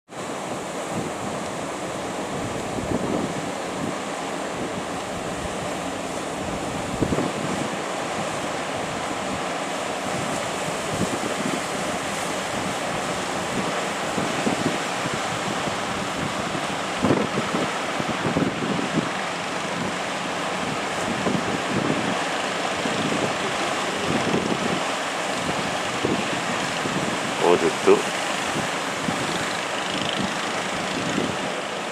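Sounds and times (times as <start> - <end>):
ocean surf breaking: 0.1 - 31.9
wind buffeting microphone: 0.3 - 31.9.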